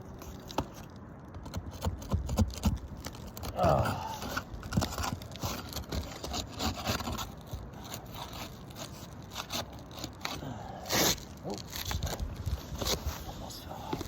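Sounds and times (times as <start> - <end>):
asphalt shingles scraping and cracking: 0.0 - 14.0.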